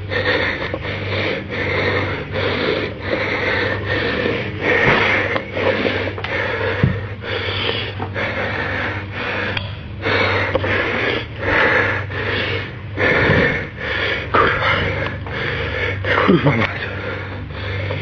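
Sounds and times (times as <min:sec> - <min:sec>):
man breathing heavily: 0:00.0 - 0:18.0
steady low hum: 0:00.0 - 0:18.0.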